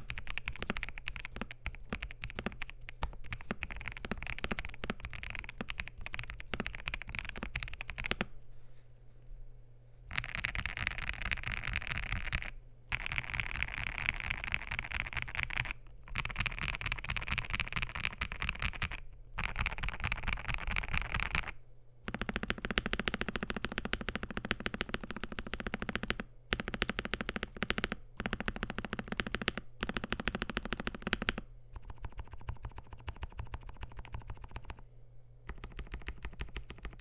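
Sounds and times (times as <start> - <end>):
fast typing on mechanical keyboard: 0.0 - 8.3, 10.1 - 34.8, 35.5 - 37.0.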